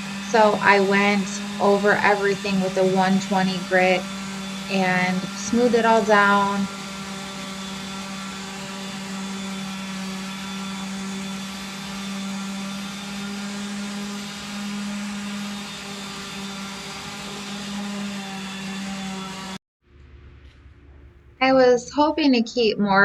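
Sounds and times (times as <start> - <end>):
electric sander on wood: 0.0 - 19.6.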